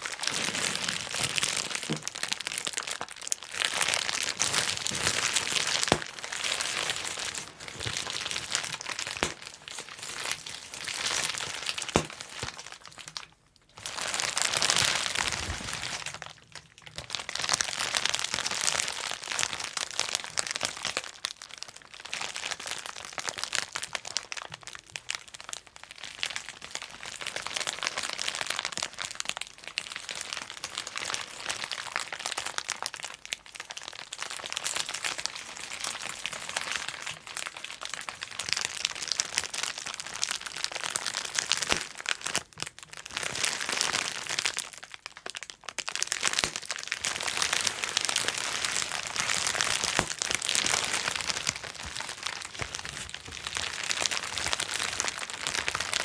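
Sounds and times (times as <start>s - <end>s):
bubble wrap popping: 0.0s - 56.0s
plastic crinkling: 0.0s - 56.0s.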